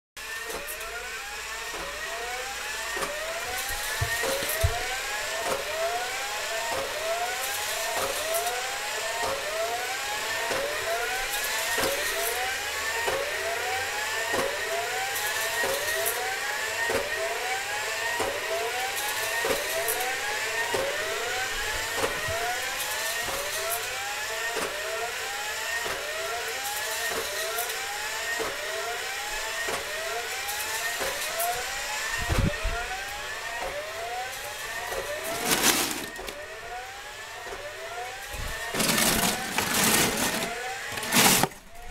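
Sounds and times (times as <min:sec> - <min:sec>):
small electric motors whining: 0:00.2 - 0:41.9.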